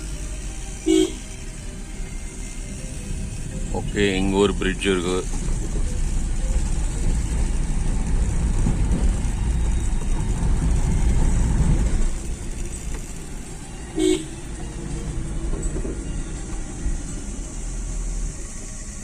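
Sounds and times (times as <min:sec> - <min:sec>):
vehicle engine and tyres rumbling: 0:00.0 - 0:19.0.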